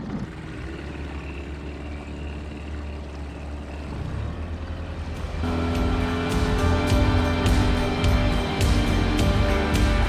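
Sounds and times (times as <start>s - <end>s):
outboard motors humming: 0.0s - 10.0s.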